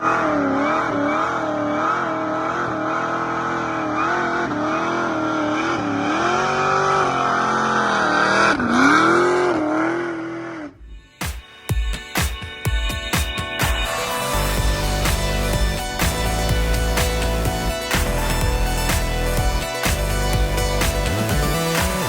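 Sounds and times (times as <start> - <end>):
car engine revving high: 0.0 - 10.8, 13.9 - 22.0.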